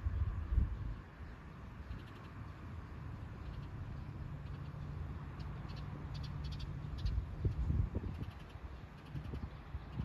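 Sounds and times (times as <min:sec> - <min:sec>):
low outdoor rumble: 0:00.0 - 0:10.0
small bird chirping: 0:00.0 - 0:10.0.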